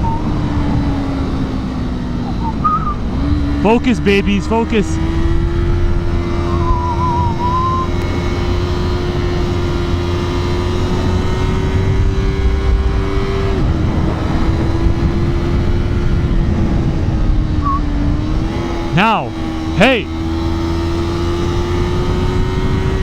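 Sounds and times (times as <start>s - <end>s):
low wind rumble: 0.0s - 3.6s, 4.4s - 23.0s
motorcycle engine high pitch: 0.0s - 23.0s.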